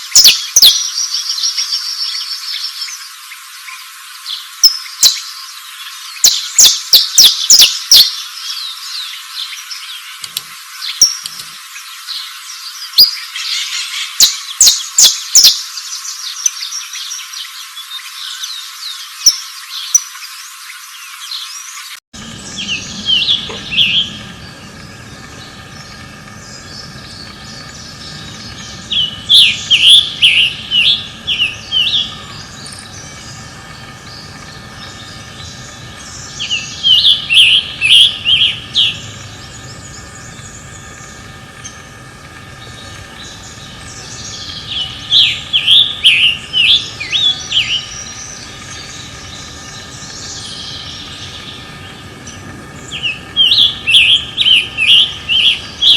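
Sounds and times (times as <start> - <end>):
faint steady hum: 0.0 - 55.9
songbird singing: 0.0 - 55.9.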